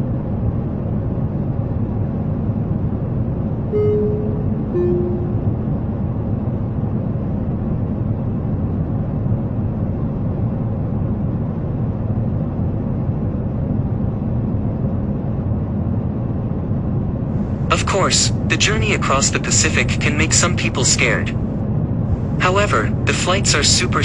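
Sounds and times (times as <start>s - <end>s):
airliner cabin rumble: 0.1s - 24.0s.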